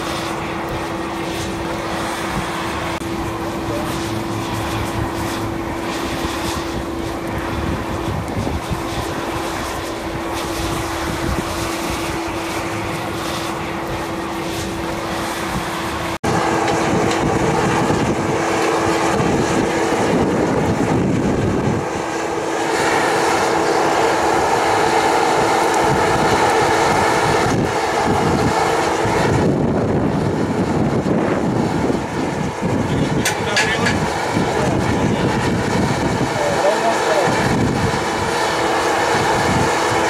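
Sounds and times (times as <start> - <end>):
constant hum: 0.0 - 40.0
electric blower fan roaring: 0.0 - 40.0.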